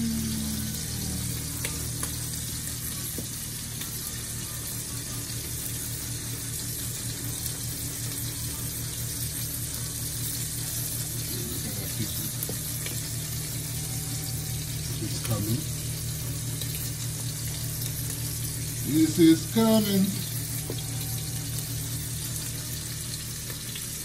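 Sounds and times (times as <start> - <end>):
low steady hum: 0.0 - 24.0
sauce bubbling in a pot: 0.0 - 24.0.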